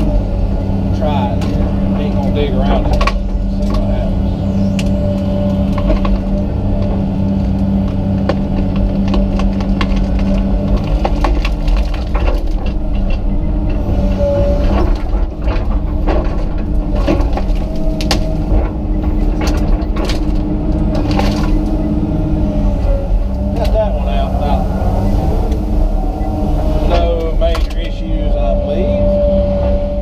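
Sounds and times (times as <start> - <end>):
wood and roots cracking: 0.0 - 28.0
excavator engine and hydraulics: 0.0 - 30.0.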